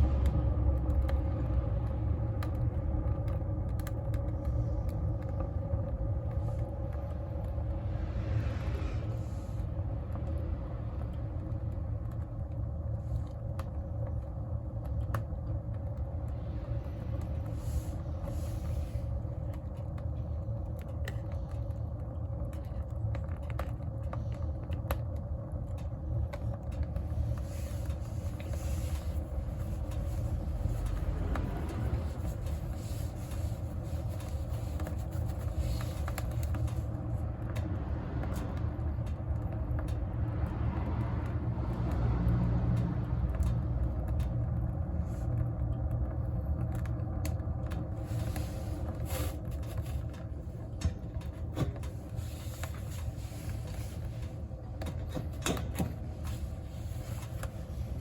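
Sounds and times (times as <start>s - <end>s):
wood stove fire roaring: 0.0s - 58.0s.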